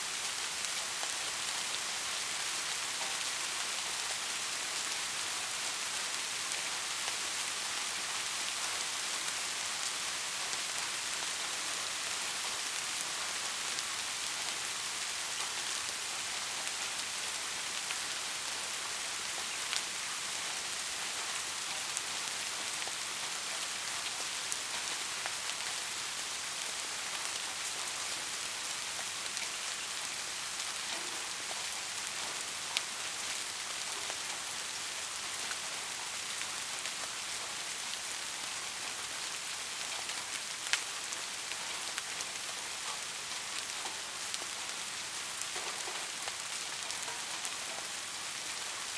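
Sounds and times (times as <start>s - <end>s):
soft steady rain: 0.0s - 48.9s.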